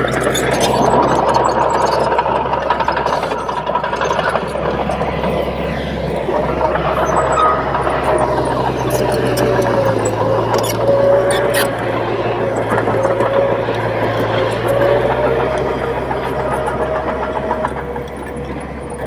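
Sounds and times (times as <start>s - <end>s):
faint thin whining tones: 0.0s - 18.4s
bulldozer diesel engine rumbling: 0.0s - 19.0s.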